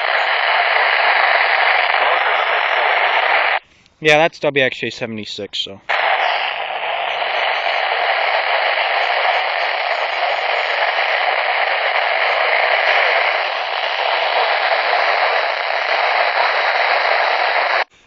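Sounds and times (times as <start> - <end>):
radio static hiss: 0.0 - 4.2, 5.9 - 18.0.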